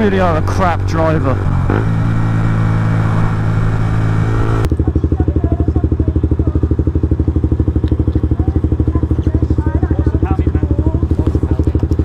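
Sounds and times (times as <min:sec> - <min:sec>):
motorcycle engine idling: 0:00.0 - 0:12.0
motorcycle engine running: 0:00.0 - 0:12.0.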